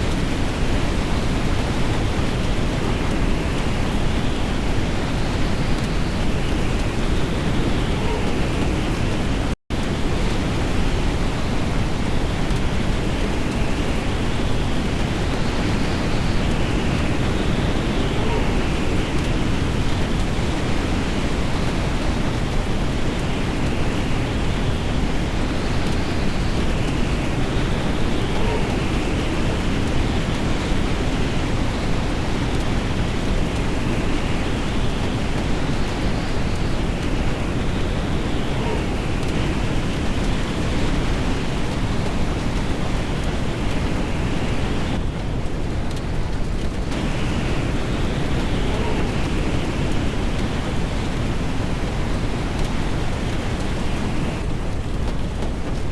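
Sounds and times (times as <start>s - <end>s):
steady rushing noise: 0.0s - 55.9s.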